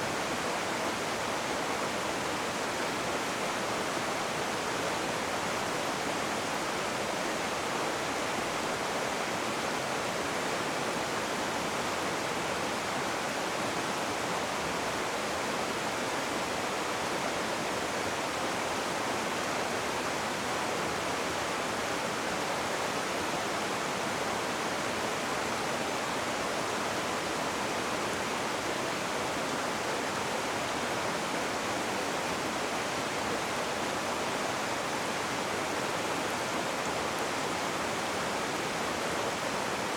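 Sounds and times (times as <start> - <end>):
river water roaring: 0.0 - 39.9.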